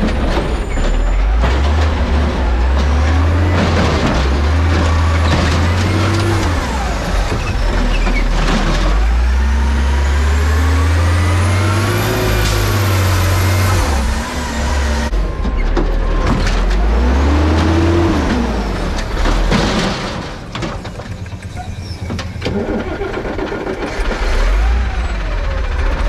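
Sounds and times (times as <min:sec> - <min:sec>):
cart clanking: 0:00.0 - 0:26.0
garbage truck diesel engine revving: 0:00.0 - 0:26.0.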